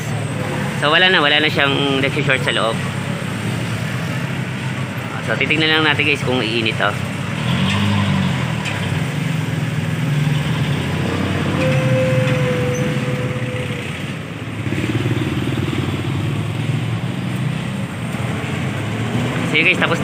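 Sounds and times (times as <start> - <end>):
passing motor traffic: 0.0 - 20.0.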